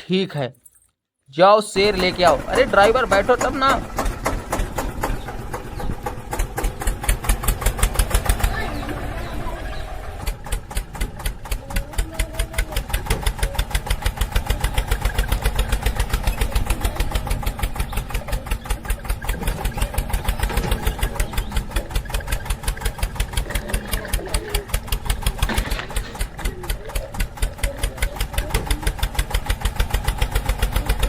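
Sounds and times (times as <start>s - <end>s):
tractor engine putt-putt: 1.8s - 31.0s.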